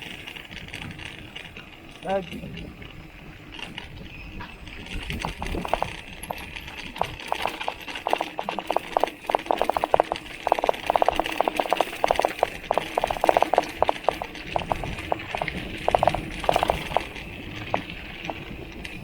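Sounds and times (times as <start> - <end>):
bike bottle cage rattling: 3.5 - 19.0.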